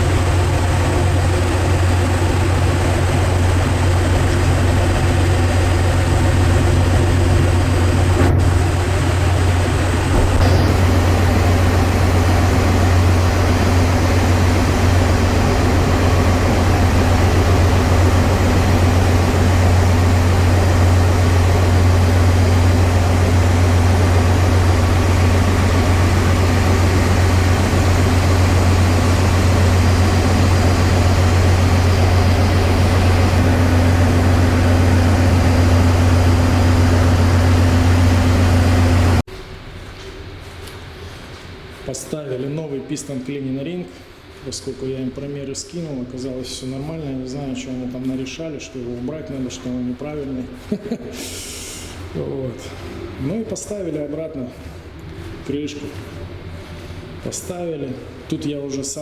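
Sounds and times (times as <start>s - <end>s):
engine room machinery drone: 0.0s - 59.0s.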